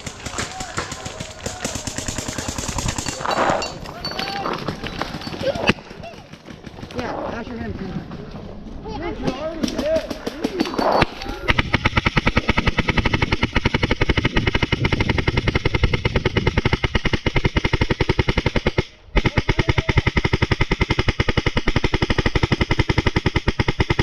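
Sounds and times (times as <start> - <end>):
paintball marker firing rapidly: 0.0 - 7.3, 9.2 - 24.0.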